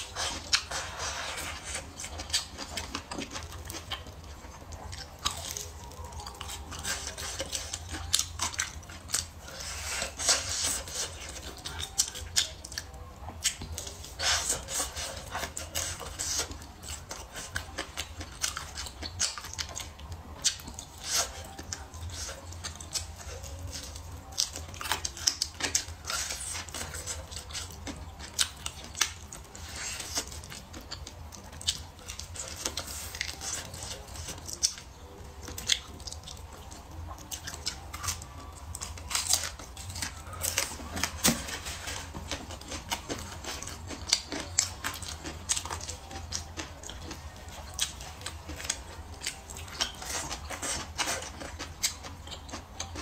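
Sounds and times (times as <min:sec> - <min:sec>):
chewing crispy fried chicken: 0:00.0 - 0:53.0.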